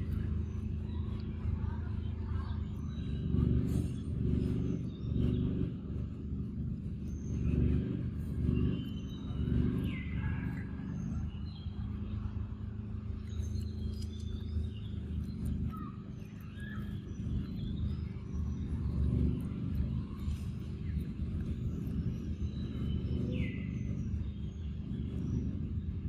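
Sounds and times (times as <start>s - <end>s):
birds chirping and whistling: 0.0s - 26.0s
low rumble: 0.0s - 26.0s.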